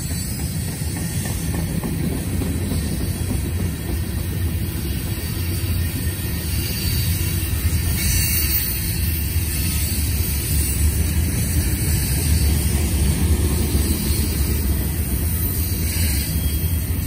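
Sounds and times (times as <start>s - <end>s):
freight train cars rumbling: 0.0s - 17.0s.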